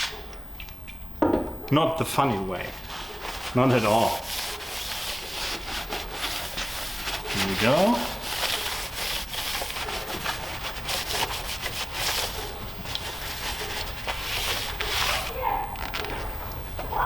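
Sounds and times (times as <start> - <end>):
sandpaper scratching: 2.3 - 16.2.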